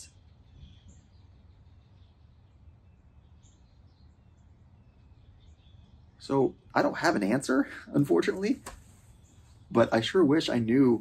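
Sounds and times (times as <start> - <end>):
soft bird chirps: 0.0 - 11.0.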